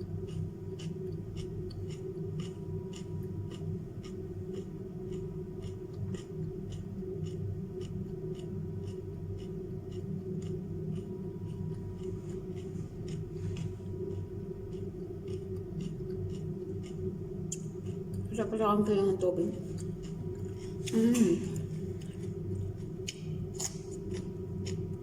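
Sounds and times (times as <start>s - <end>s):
crunchy chewing of carrot: 0.0s - 25.0s
steady low hum: 0.0s - 25.0s.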